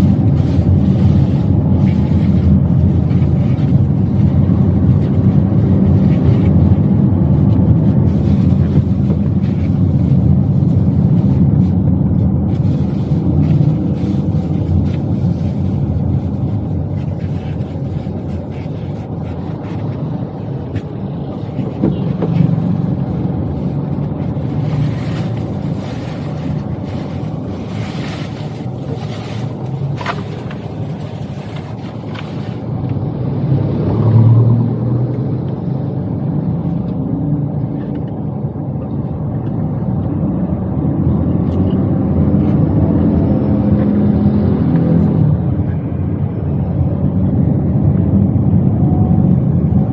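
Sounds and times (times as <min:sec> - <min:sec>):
car engine inside cabin: 0:00.0 - 0:49.9
road noise: 0:00.0 - 0:49.9.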